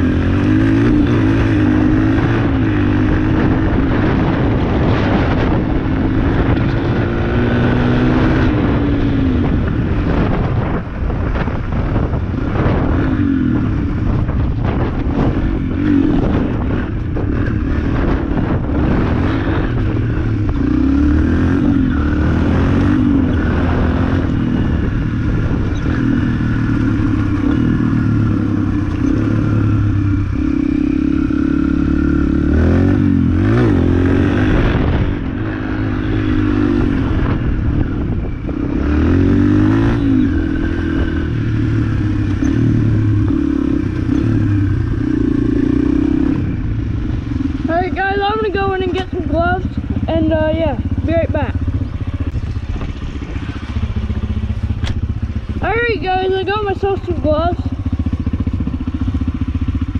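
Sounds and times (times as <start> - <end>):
dirt bike engine revving: 0.0 - 59.9
wind buffeting microphone: 0.0 - 59.9.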